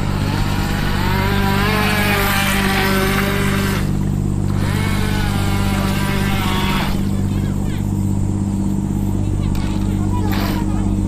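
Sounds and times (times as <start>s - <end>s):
electric motor whining: 0.0s - 11.0s
low steady hum: 0.0s - 11.0s.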